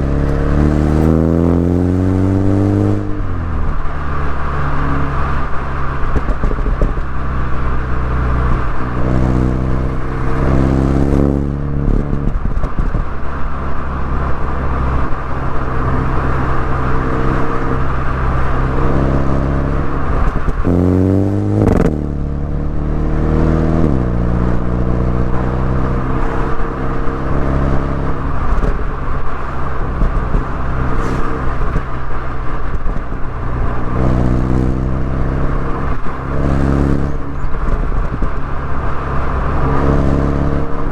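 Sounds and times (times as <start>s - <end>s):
car engine and exhaust droning: 0.0s - 40.9s.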